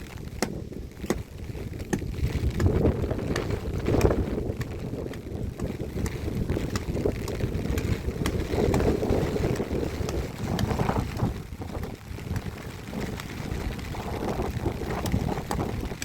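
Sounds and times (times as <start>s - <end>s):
gusting wind on microphone: 0.0s - 16.0s.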